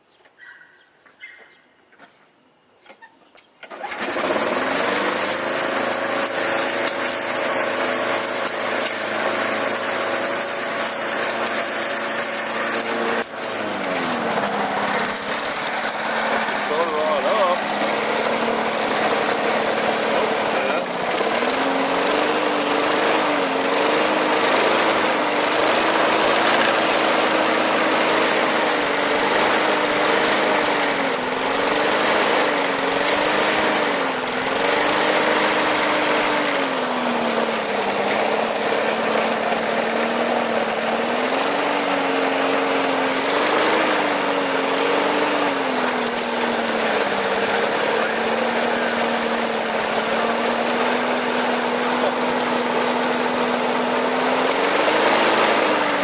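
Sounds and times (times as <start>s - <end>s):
lawn mower engine running: 3.6s - 56.0s.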